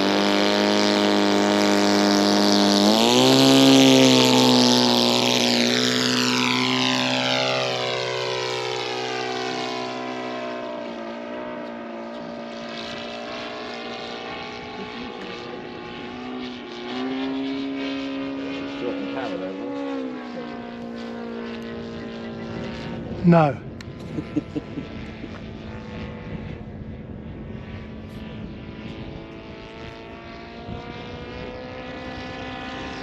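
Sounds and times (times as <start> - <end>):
model airplane engine at high throttle: 0.0 - 33.0.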